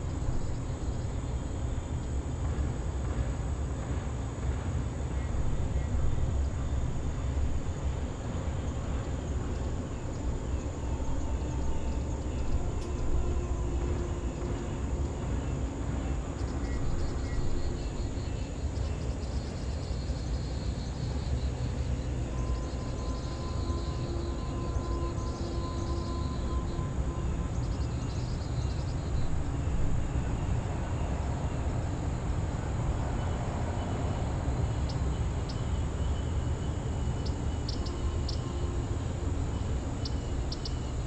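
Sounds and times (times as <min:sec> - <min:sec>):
distant traffic rumble: 0:00.0 - 0:41.0.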